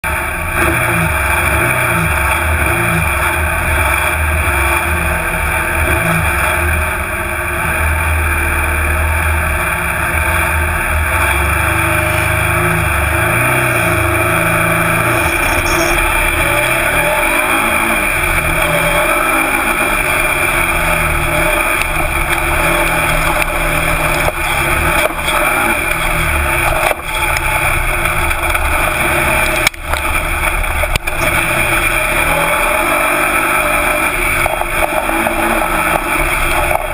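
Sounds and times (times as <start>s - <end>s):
engine revving: 0.0s - 36.9s.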